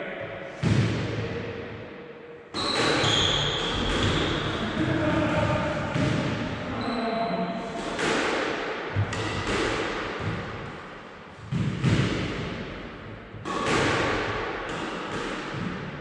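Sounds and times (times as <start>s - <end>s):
squash ball hits echoing: 0.2s - 6.8s, 7.7s - 16.0s.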